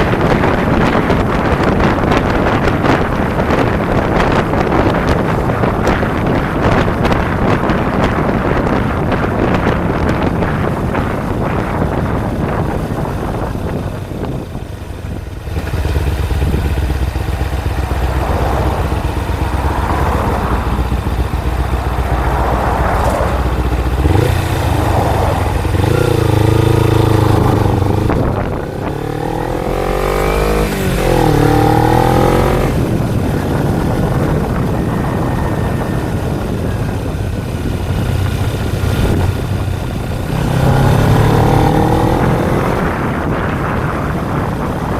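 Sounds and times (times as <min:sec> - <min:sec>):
motorcycle engine running: 0:00.0 - 0:44.9
wind noise on microphone: 0:00.0 - 0:44.9.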